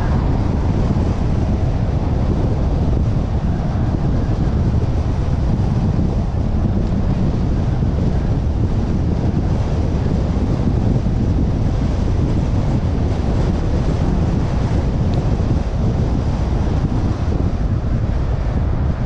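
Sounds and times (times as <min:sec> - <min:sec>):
tyre and road noise: 0:00.0 - 0:19.0
wind buffeting microphone: 0:00.0 - 0:19.0.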